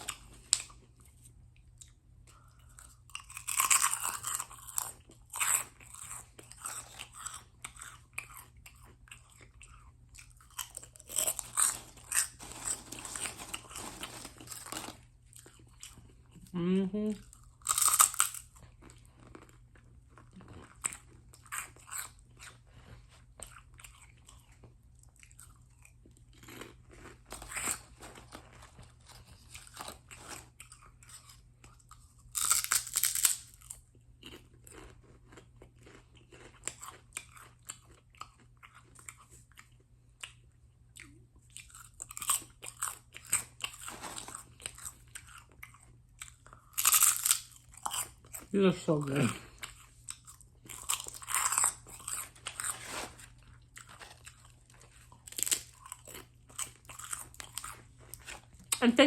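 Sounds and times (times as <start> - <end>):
pork rinds crunching: 1.8 - 16.4, 17.3 - 22.5, 23.4 - 40.4, 41.0 - 58.8.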